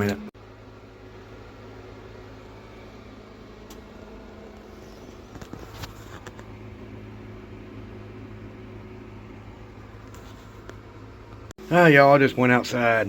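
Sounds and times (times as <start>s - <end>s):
mechanical hum with fan whir: 0.0s - 13.0s.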